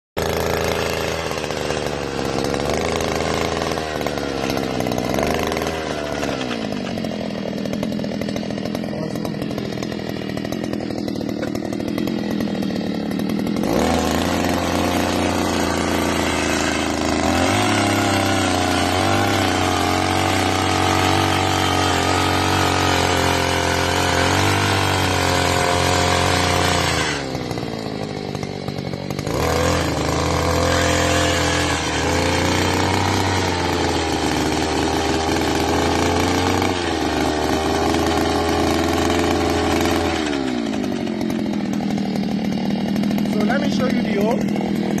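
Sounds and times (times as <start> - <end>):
small engine running: 0.2 - 45.0.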